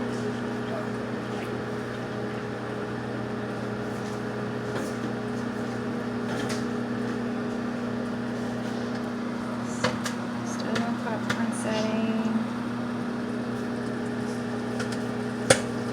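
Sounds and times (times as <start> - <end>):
microwave oven humming: 0.0 - 15.9.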